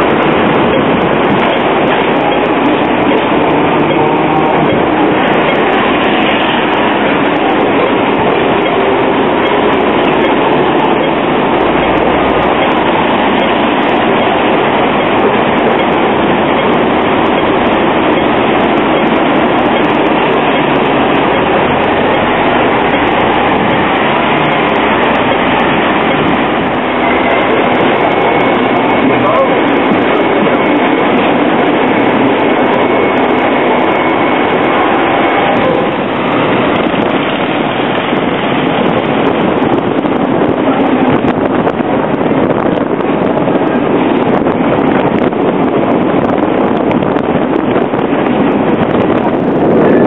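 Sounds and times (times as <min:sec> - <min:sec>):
trams and buses passing: 0:00.0 - 0:50.0.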